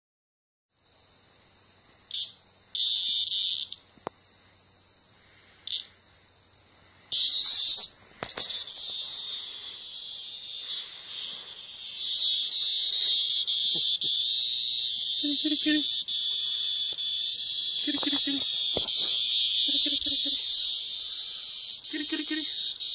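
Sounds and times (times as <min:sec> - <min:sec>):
cicada buzzing in bursts: 0:00.7 - 0:22.9
faint high insect hum: 0:00.7 - 0:22.9.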